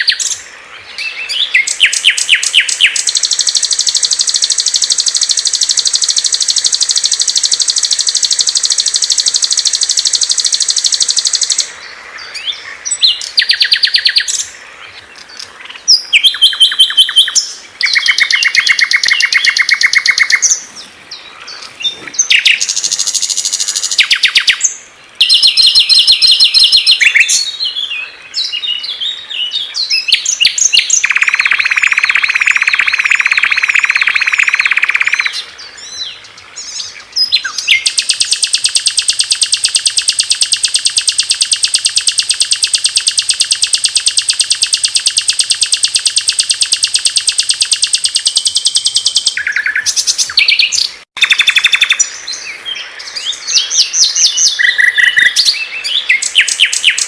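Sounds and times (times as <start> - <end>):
fast even bird trill: 0.0 - 0.4, 1.0 - 11.7, 12.8 - 14.5, 15.7 - 20.6, 22.2 - 27.5, 29.9 - 35.4, 37.4 - 52.1, 53.5 - 57.0
songbirds chirping: 0.0 - 57.0.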